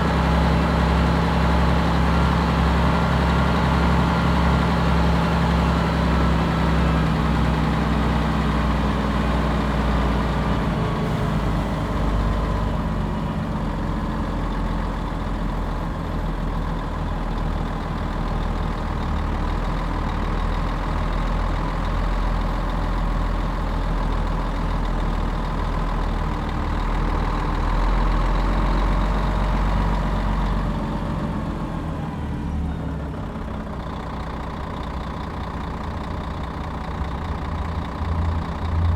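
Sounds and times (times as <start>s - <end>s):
bus engine droning: 0.0s - 38.9s.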